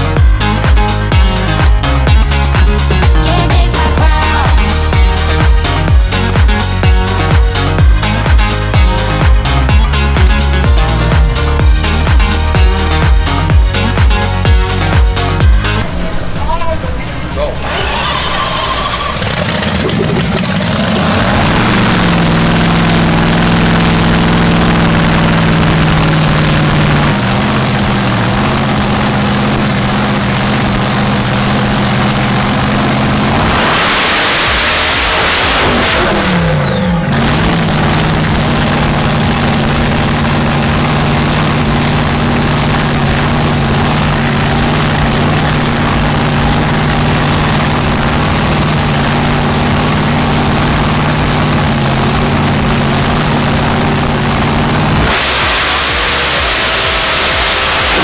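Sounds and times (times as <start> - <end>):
dragster engine idling loudly: 0.0 - 58.0
engine revving: 0.0 - 58.0.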